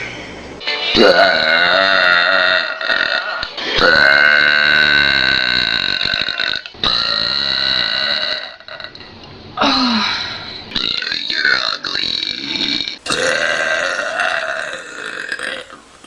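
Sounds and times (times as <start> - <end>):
person burping: 1.0 - 10.1, 10.7 - 15.9.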